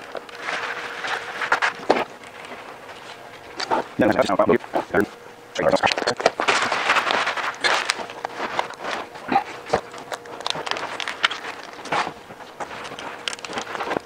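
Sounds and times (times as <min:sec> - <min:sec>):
vinyl film rustling and crackling: 0:00.0 - 0:14.0.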